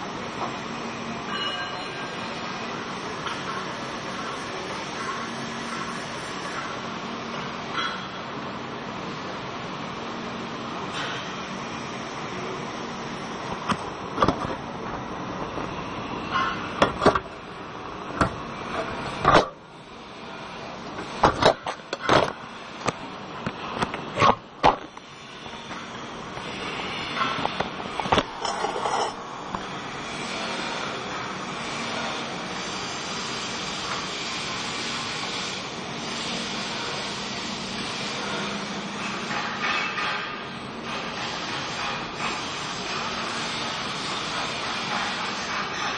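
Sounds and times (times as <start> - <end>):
steady machine noise: 0.0 - 45.9.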